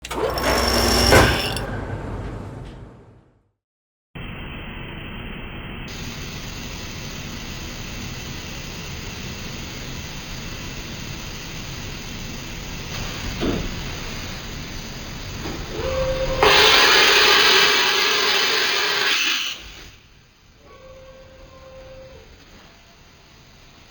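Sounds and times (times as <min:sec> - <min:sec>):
hissing machine-shop noise: 0:00.0 - 0:03.1, 0:05.9 - 0:23.9.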